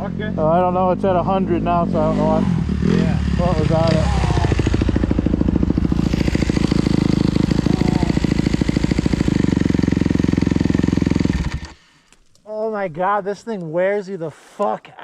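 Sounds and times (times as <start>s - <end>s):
dirt bike engine idling: 0.0s - 12.1s.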